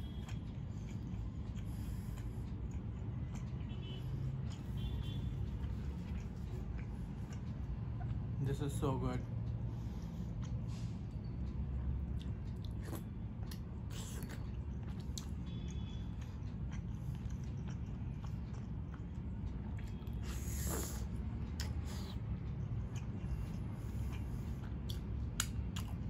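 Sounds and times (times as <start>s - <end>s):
chewing with wet smacks: 0.0s - 26.0s.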